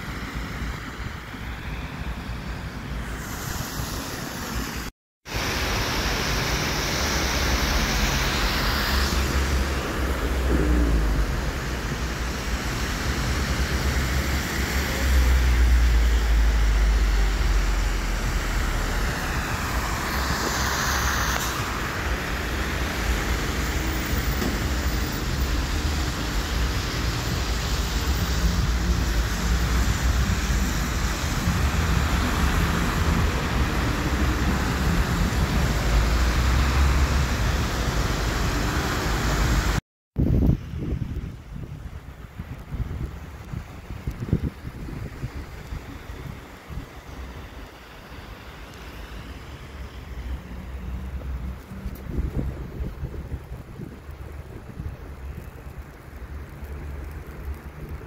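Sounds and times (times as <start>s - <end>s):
traffic on wet road: 0.0s - 58.0s.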